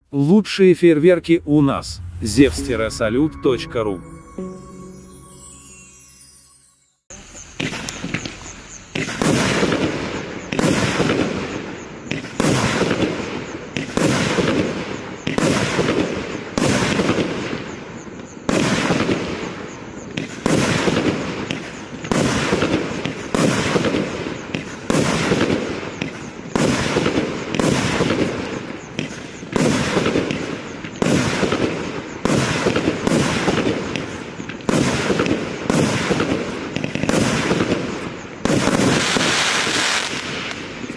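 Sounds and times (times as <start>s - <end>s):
fireworks banging and crackling: 7.6s - 40.9s.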